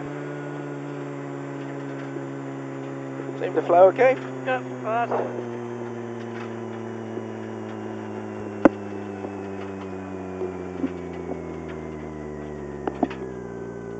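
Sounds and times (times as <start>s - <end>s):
car engine running at low revs: 0.0s - 13.9s.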